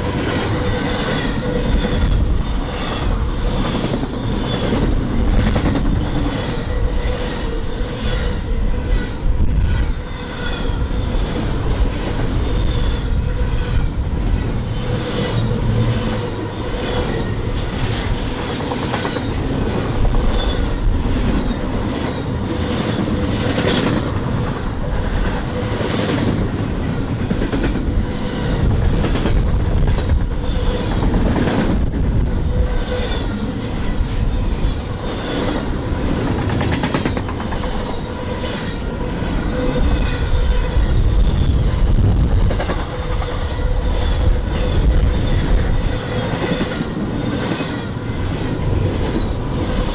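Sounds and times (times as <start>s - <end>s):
freight train rumble: 0.0s - 49.9s
train wheels clicking on rails: 0.0s - 49.9s.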